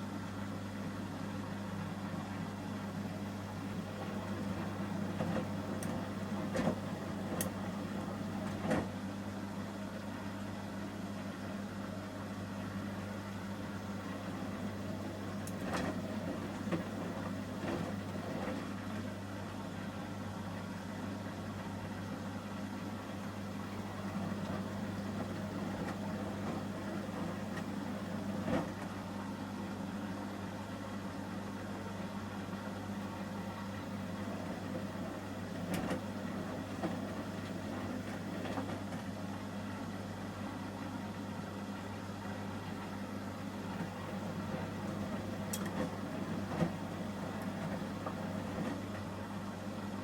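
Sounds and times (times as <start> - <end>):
washing machine humming: 0.0 - 50.0.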